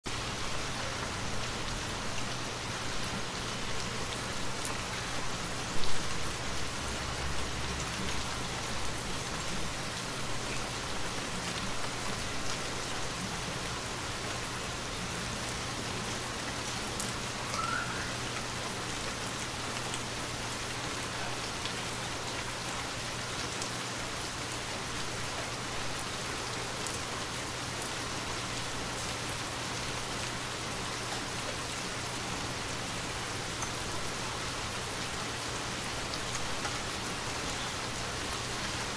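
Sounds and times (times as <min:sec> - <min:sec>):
rain pattering on wet pavement: 0:00.1 - 0:38.9.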